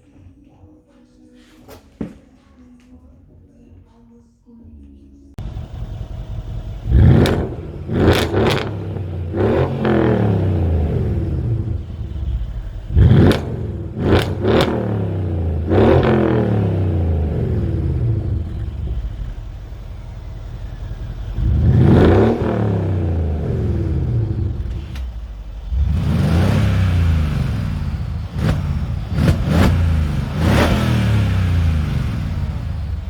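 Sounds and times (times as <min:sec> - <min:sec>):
car engine idling and revving: 0:05.4 - 0:33.0
exhaust pops: 0:05.4 - 0:33.0.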